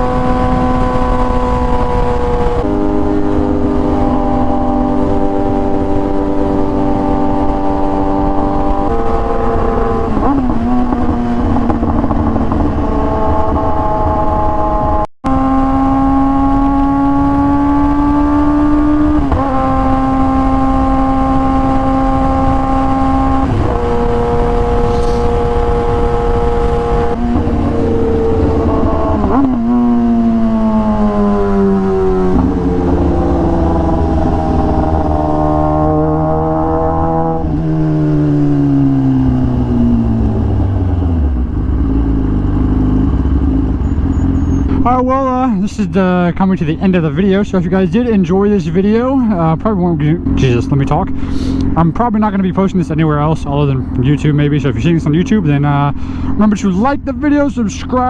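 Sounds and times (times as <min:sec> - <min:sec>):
motorcycle engine running: 0:00.0 - 0:47.9
low wind rumble: 0:00.0 - 0:58.0.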